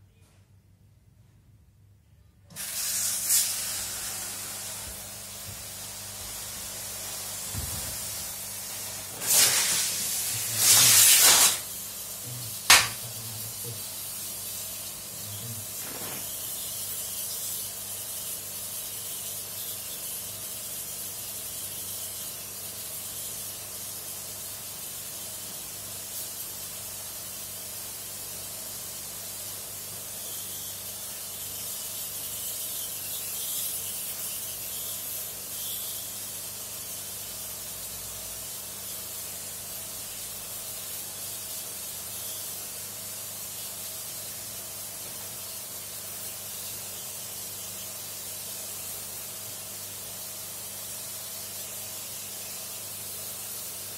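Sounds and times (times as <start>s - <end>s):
water spraying with a hiss: 2.5s - 53.9s.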